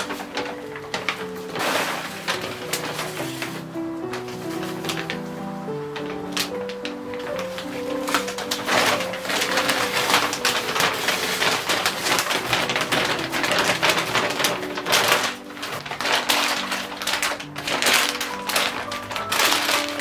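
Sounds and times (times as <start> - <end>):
piano music: 0.0 - 20.0
plastic bag crinkling: 0.0 - 20.0.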